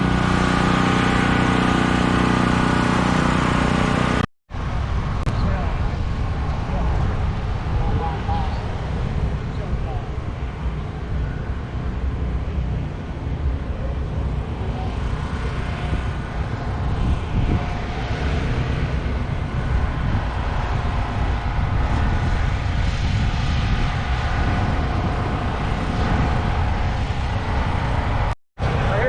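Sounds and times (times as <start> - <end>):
turbine engine whine and rumble: 0.0 - 29.0.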